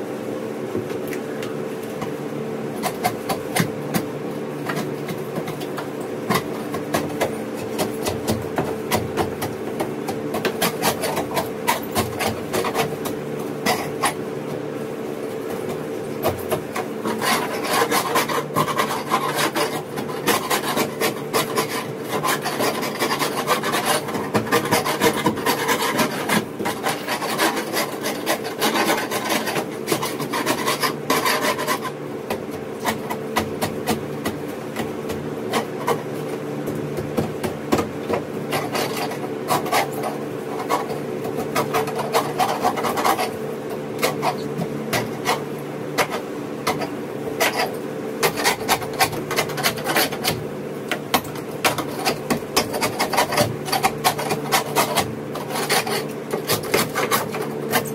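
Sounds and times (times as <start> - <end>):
steady low hum: 0.0 - 57.9
scraper scraping boat hull: 2.7 - 57.9.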